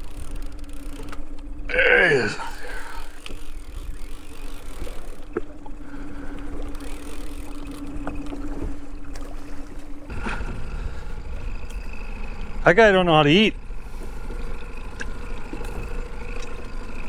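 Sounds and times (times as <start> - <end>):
boat motor rumble: 0.0 - 17.0
steady hum: 0.0 - 17.0
wind: 0.0 - 17.0.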